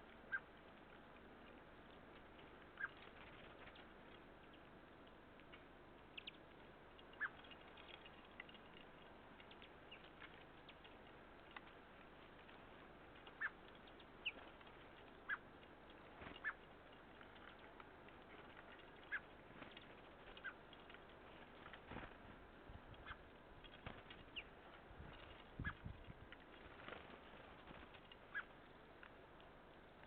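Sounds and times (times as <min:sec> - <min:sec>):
faint ticks: 0:00.0 - 0:30.0
songbirds chirping: 0:00.0 - 0:30.0.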